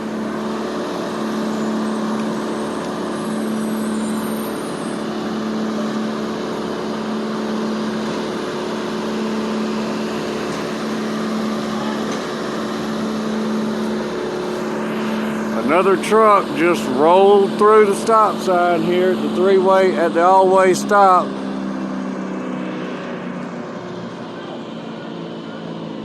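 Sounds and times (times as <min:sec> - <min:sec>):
engine droning hum: 0:00.0 - 0:26.0.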